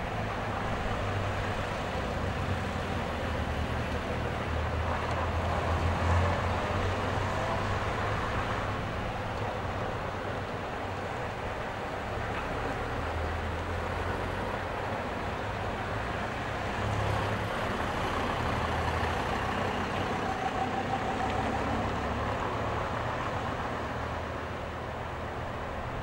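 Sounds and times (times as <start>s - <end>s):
buses driving past: 0.0s - 26.0s.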